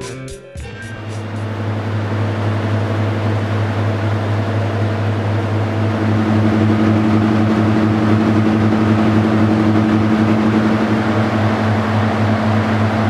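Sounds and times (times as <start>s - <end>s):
higher hum: 0.0s - 13.0s
diesel locomotive engines idling: 0.6s - 13.0s.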